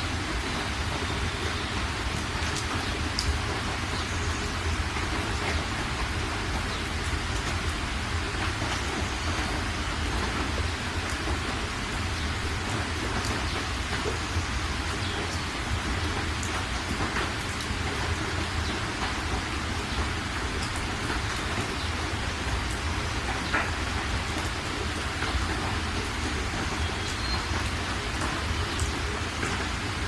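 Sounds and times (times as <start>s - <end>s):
heavy rain falling: 0.0s - 30.0s
raindrop ticks: 0.2s - 30.0s.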